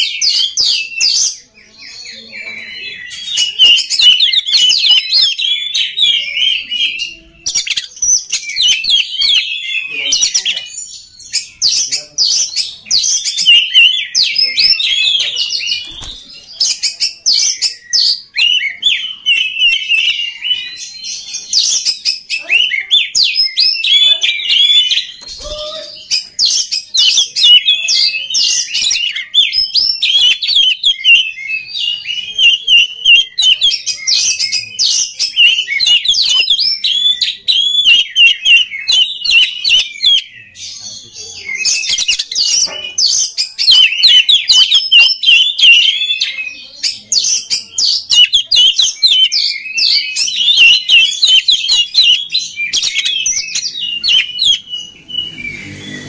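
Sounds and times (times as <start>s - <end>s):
bird singing chirps and whistles: 0.0s - 56.0s.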